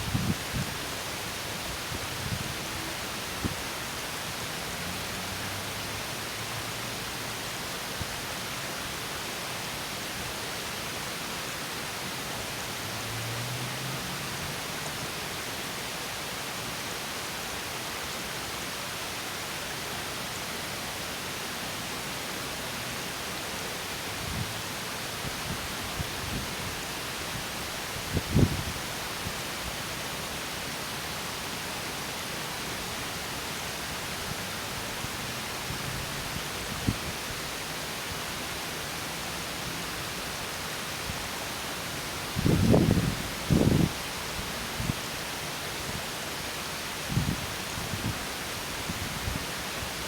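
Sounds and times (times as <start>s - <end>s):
water rushing over small waterfall: 0.0s - 50.0s.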